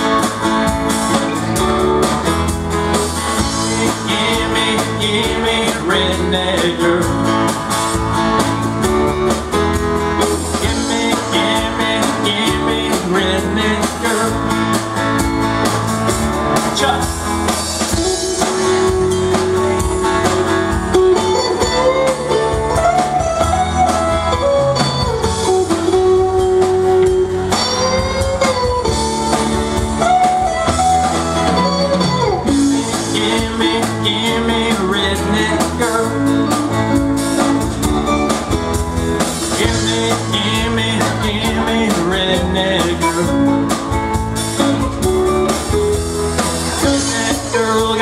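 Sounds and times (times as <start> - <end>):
bending lead guitar notes: 0.0 - 48.0
country-rock band playing: 0.0 - 48.0.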